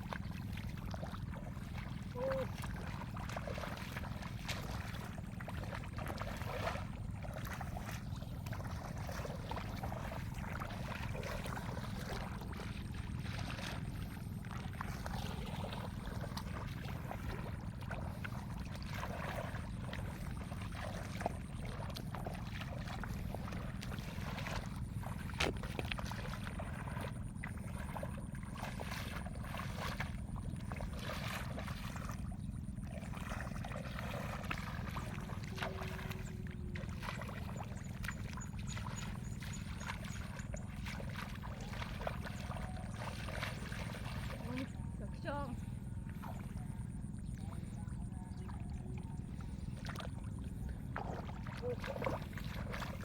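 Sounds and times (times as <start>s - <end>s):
shallow water sloshing and splashing: 0.0s - 53.0s
steady low rumble: 0.0s - 53.0s.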